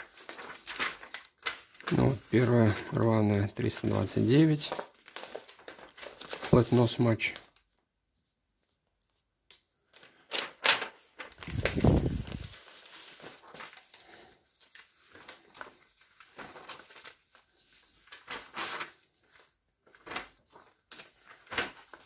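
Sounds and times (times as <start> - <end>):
paper rustling and flapping: 0.0 - 7.7, 9.6 - 22.0.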